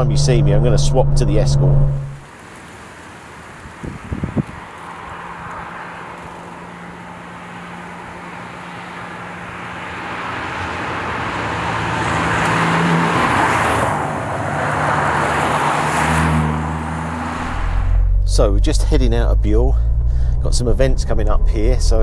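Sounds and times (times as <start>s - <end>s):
car engine: 0.0s - 3.2s, 4.5s - 22.0s
road noise: 0.0s - 22.0s.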